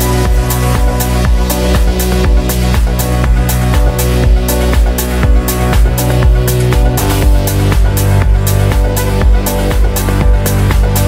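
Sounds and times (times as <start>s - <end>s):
progressive house dance music: 0.0s - 11.0s.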